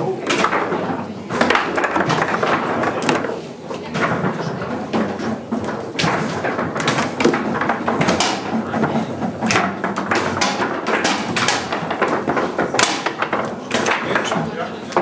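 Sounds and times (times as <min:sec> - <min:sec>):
foosball ball knocks: 0:00.2 - 0:15.0.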